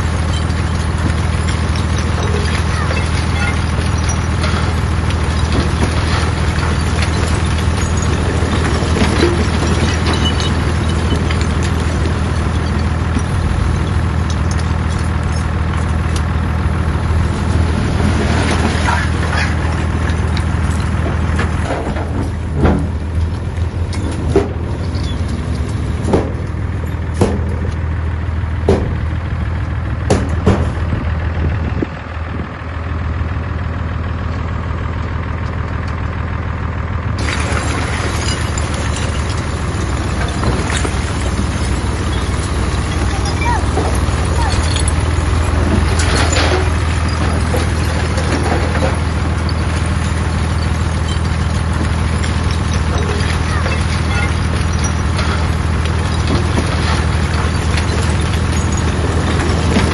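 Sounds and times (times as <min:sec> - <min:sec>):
metallic clanks and knocks: 0:00.0 - 0:16.4, 0:18.2 - 0:27.8, 0:28.6 - 0:29.1, 0:30.0 - 0:31.0, 0:37.2 - 0:59.9
bulldozer diesel engine running: 0:00.0 - 0:59.9.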